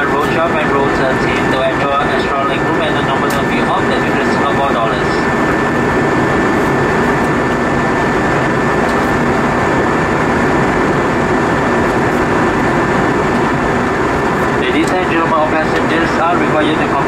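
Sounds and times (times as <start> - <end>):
airflow rushing over fuselage: 0.0 - 17.0
faint high whine: 0.0 - 17.0
jet engines droning: 0.0 - 17.0.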